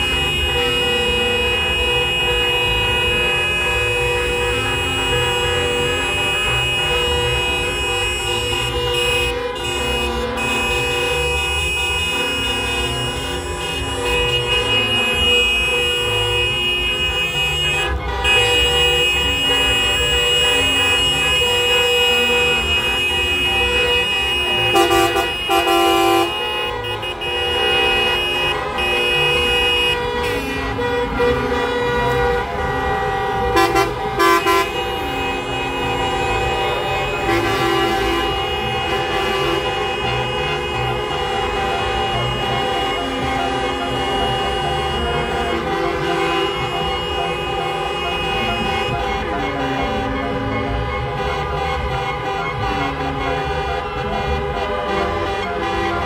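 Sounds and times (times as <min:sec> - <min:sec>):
many horns honking: 0:00.0 - 0:56.0.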